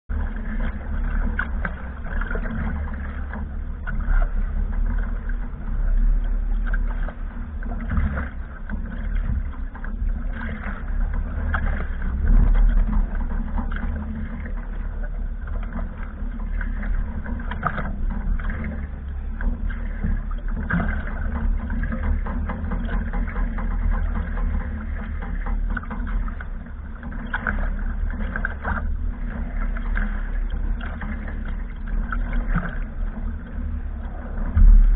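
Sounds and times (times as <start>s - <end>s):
water rushing along hulls: 0.0s - 34.9s
wind rumbling on microphone: 0.1s - 34.9s.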